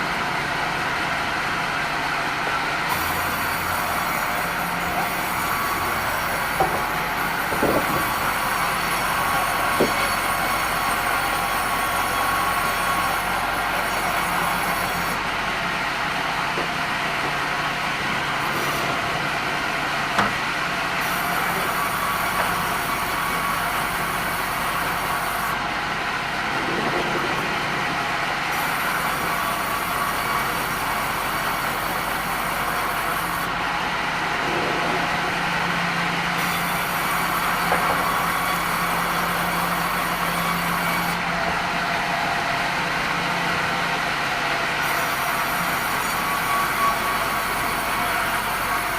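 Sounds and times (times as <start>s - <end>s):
band saw humming and hissing: 0.0s - 48.9s.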